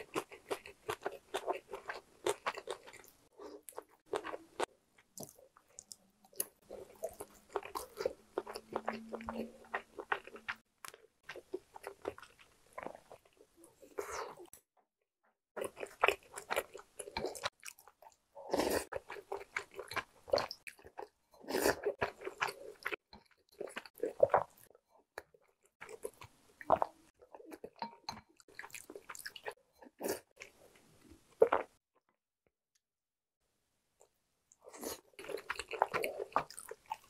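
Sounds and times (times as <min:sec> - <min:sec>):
close chewing and biting: 0:00.0 - 0:14.5, 0:15.6 - 0:30.6, 0:34.6 - 0:37.0.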